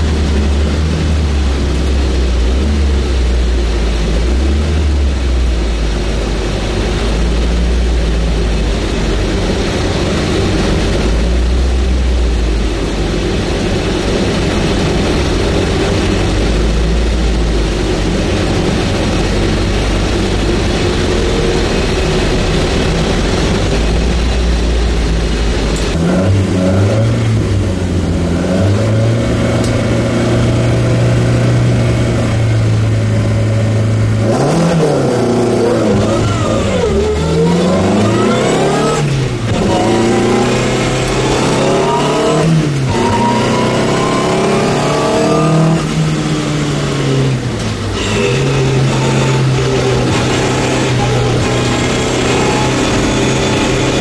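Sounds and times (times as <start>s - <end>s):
car engine revving: 0.0s - 54.0s
gear changes: 0.0s - 54.0s.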